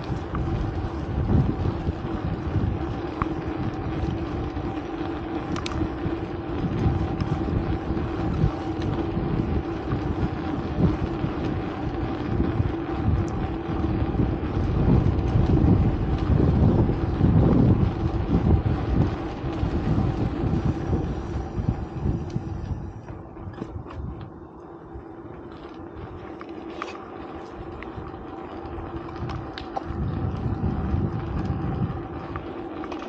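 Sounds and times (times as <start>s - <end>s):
vehicle engine humming: 0.0s - 33.0s
wind buffeting microphone: 0.0s - 33.0s.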